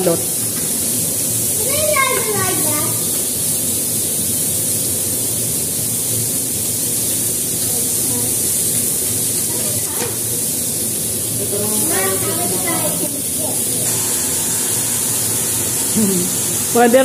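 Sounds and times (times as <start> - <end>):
meat sizzling on a grill plate: 0.0 - 17.0.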